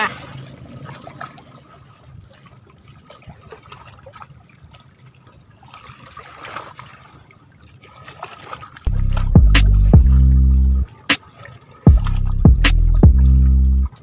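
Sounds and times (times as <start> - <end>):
lake water lapping: 0.0 - 14.0
small water splashes: 0.0 - 14.0
water swish: 0.0 - 14.0.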